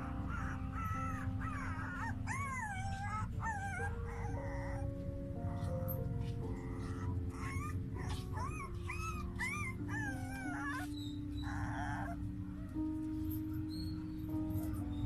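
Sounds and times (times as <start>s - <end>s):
background music with held notes: 0.0s - 15.0s
puppies whining and yelping: 0.0s - 15.0s.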